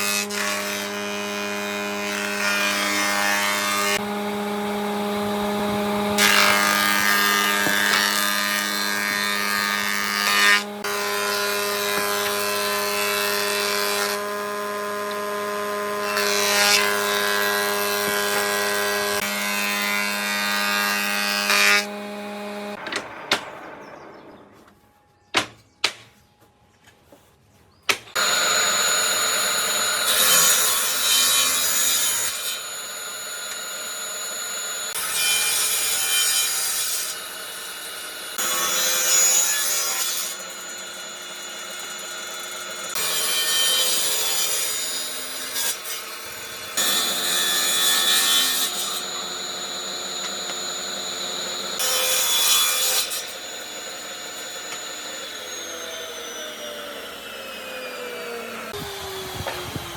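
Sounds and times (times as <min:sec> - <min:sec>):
power tool cutting wood: 0:00.0 - 0:24.6, 0:28.1 - 0:59.9.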